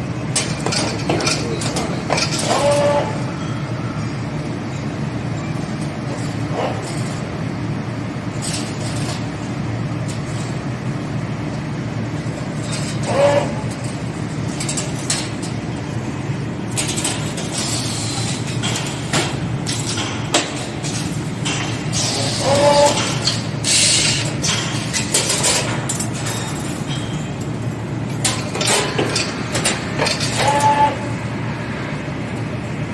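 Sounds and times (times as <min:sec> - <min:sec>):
machine humming: 0:00.0 - 0:32.9.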